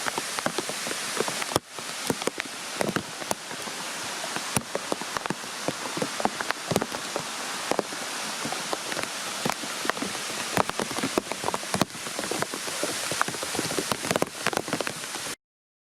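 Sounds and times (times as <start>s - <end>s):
water drips: 0.0s - 15.4s
waterfall splashing: 0.0s - 15.4s.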